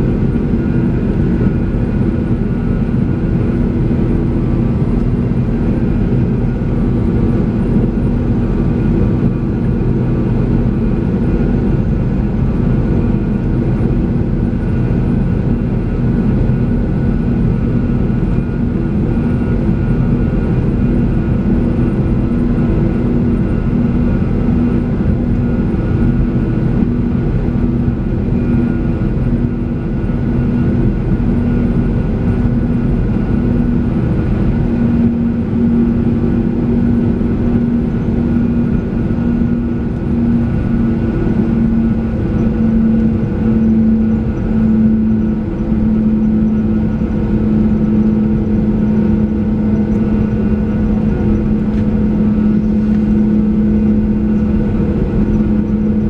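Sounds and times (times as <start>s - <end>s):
jet cabin drone: 0.0s - 56.0s.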